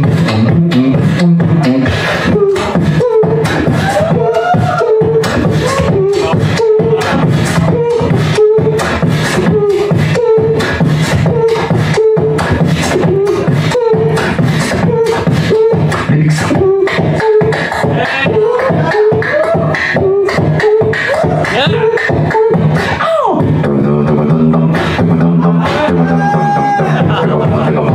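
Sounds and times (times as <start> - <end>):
person beatboxing: 0.0 - 27.9.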